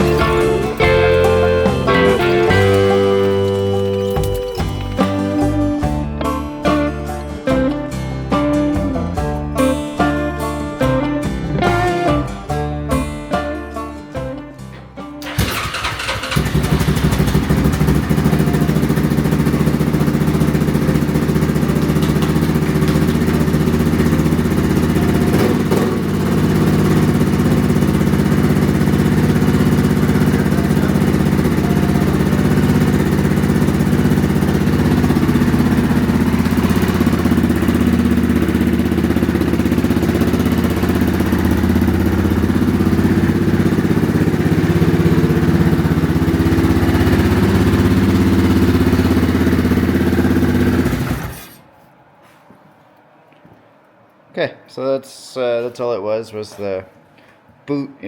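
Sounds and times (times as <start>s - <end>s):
atv engine running: 0.0s - 13.0s, 15.2s - 51.4s.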